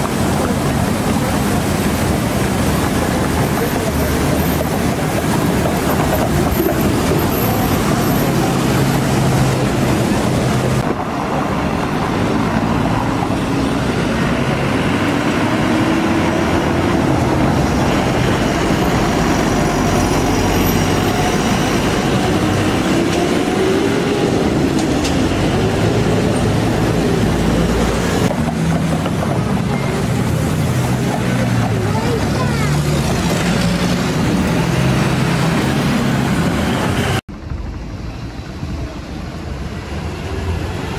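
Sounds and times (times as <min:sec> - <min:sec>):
bus engines humming: 0:00.0 - 0:40.9
street traffic: 0:00.0 - 0:40.9.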